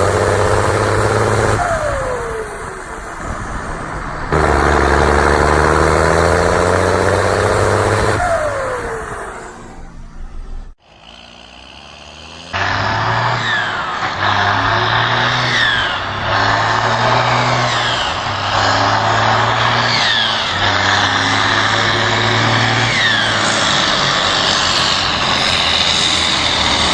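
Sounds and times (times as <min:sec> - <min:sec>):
tractor diesel engine revving: 0:00.0 - 0:26.9.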